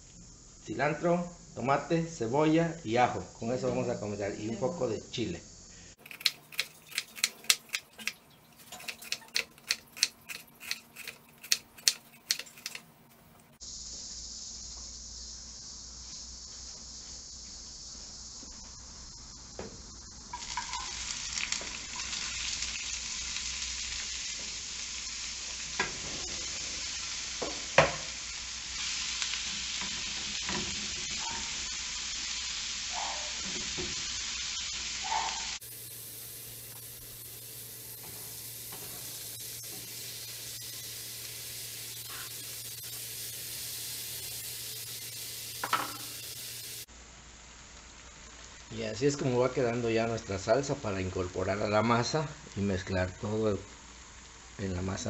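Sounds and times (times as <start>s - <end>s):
onion sizzling in oil: 2.9s - 55.0s.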